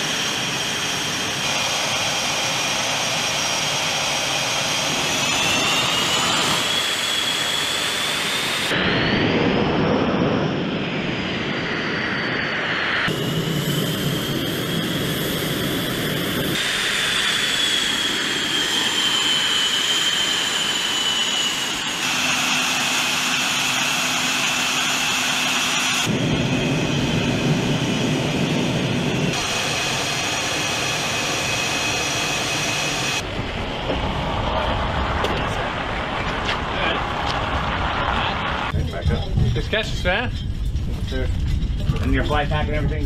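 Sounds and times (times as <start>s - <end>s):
high turbine whine: 0.0s - 43.0s
jet engine rush: 0.0s - 43.0s.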